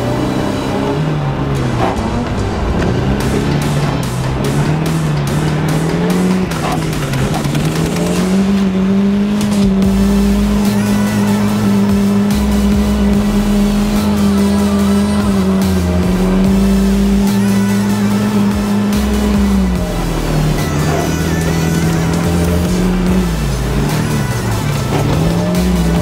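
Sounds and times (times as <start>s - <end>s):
background music with beat: 0.0s - 26.0s
car engine at high revs: 0.0s - 26.0s.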